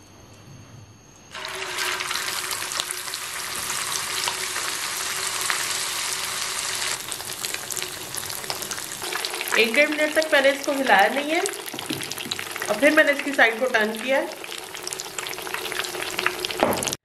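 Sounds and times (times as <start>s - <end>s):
meat sizzling in hot oil: 1.3s - 17.0s.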